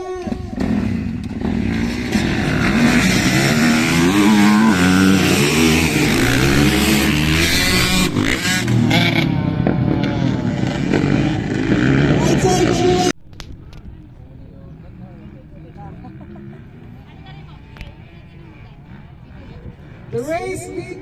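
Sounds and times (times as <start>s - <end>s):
dirt bikes revving and accelerating: 0.3s - 13.2s, 14.8s - 21.0s.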